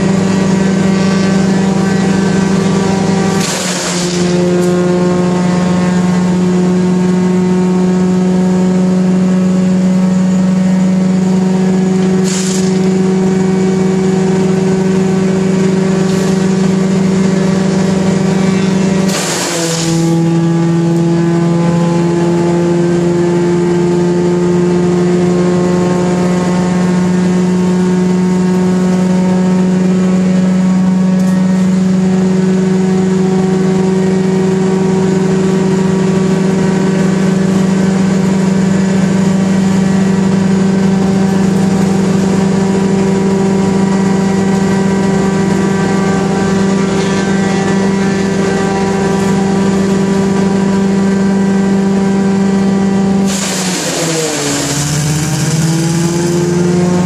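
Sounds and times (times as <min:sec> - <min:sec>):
brush going through chipper: 0:00.0 - 0:22.1, 0:24.8 - 0:57.0
wood chipper running: 0:00.0 - 0:57.0.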